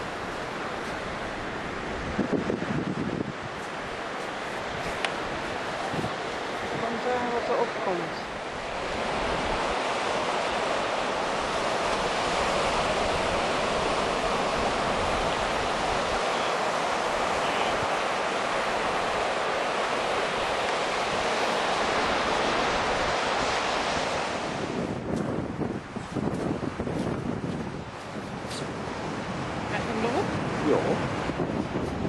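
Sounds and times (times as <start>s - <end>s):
sea surf breaking on beach: 0.0s - 32.0s.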